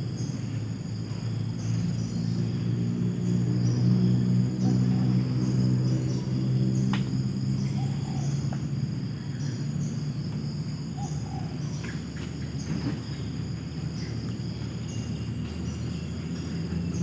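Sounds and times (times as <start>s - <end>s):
insects trilling: 0.0s - 17.0s
low steady rumble: 0.0s - 17.0s.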